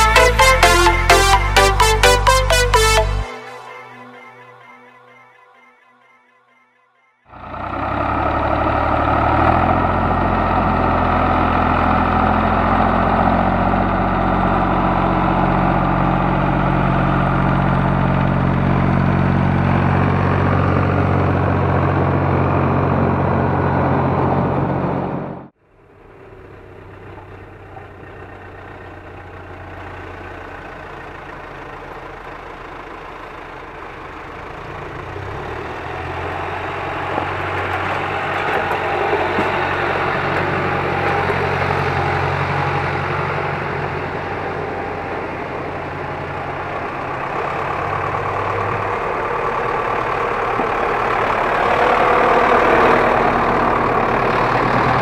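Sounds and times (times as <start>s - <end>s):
tractor diesel engine running: 0.0s - 3.6s, 7.3s - 55.0s.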